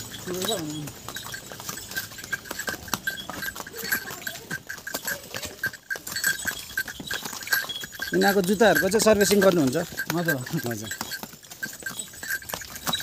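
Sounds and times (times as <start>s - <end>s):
horse hooves clopping on stone: 0.0s - 13.0s.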